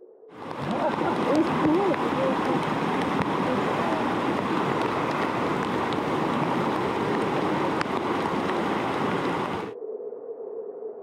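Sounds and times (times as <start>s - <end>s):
creek water rushing: 0.3s - 9.8s.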